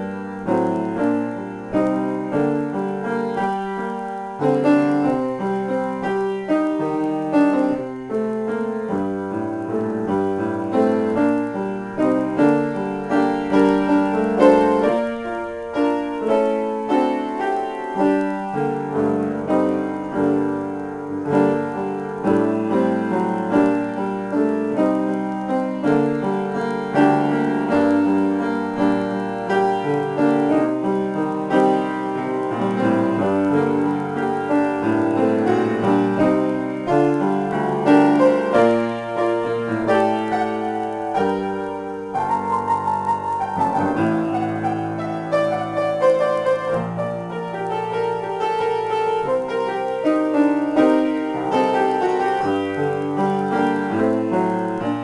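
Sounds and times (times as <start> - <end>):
solo upright piano: 0.0 - 55.0.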